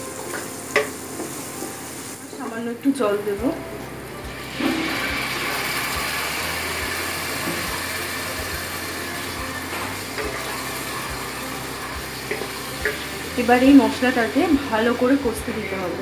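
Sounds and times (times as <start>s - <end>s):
water hissing in hot oil: 0.0s - 2.5s, 3.2s - 16.0s.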